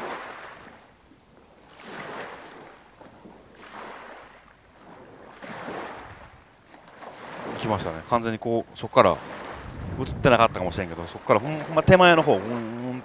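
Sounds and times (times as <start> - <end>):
sea waves on rocky shore: 0.0 - 13.0.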